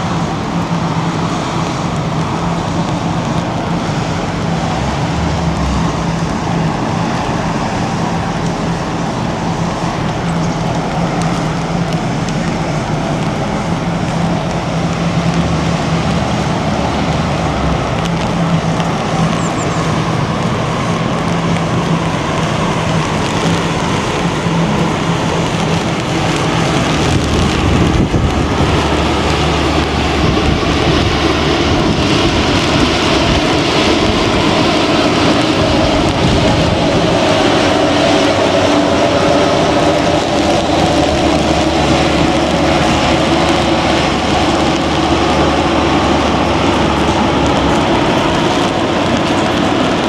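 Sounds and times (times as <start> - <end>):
wind and rain rushing: 0.0 - 50.0.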